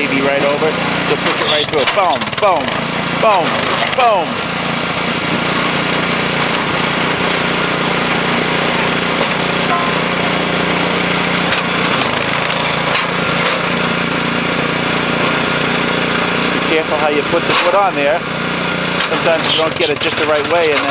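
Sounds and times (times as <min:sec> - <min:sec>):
small gas engine running: 0:00.0 - 0:20.9.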